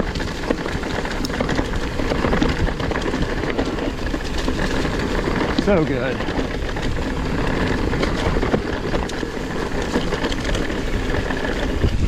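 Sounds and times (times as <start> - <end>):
bike rattling and clicking: 0.0 - 12.0
tyres and wind rumble: 0.0 - 12.0.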